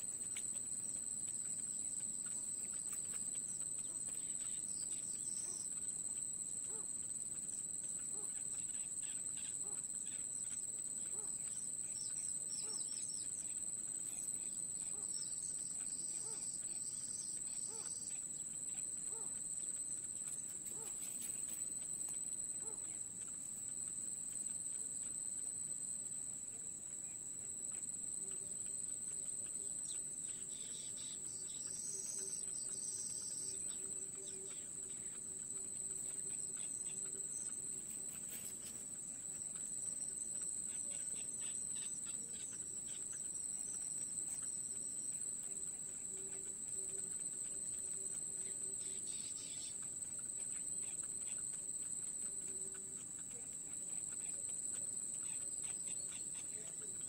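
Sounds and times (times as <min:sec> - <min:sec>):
insect chirping bursts: 0:00.0 - 0:57.0
insect trilling: 0:00.0 - 0:57.0.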